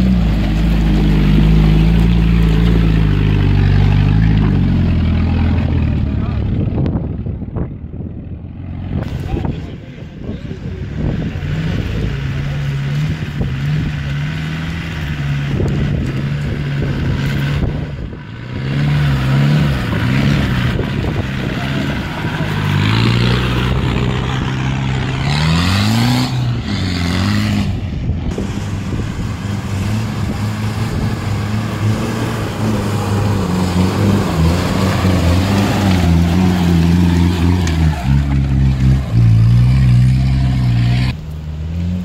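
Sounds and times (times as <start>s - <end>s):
off-road engines labouring and revving: 0.0s - 42.0s.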